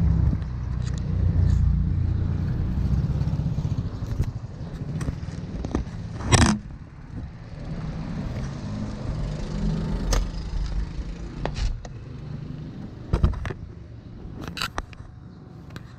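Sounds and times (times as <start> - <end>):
bicycle road rumble: 0.0 - 15.9
wind: 0.0 - 15.9.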